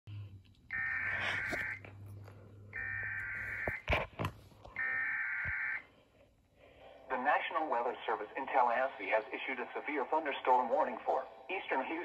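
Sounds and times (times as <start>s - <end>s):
low steady hum: 0.1s - 12.0s.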